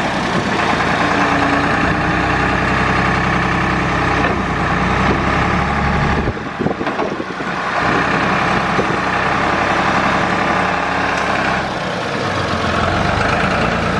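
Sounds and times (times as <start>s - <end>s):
forklift diesel engine running: 0.0s - 13.9s.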